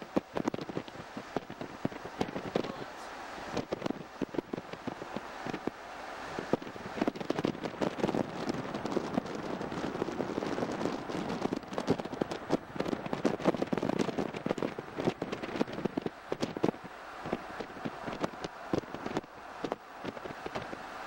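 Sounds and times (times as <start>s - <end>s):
tyres on gravel road: 0.0s - 21.0s.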